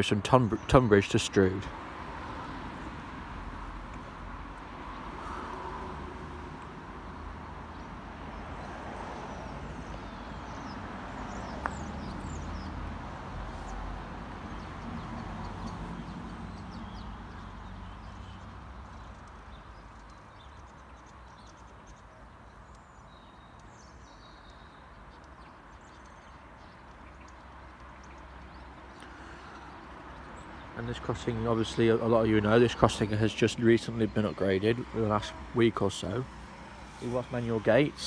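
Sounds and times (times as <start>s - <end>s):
distant road traffic rumble: 0.0s - 38.0s
small birds chirping: 0.0s - 38.0s.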